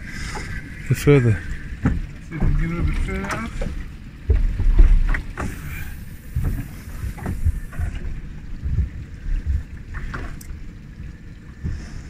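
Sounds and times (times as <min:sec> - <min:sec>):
sea water washing around boat: 0:00.0 - 0:12.0
wind buffeting microphone: 0:00.0 - 0:12.0.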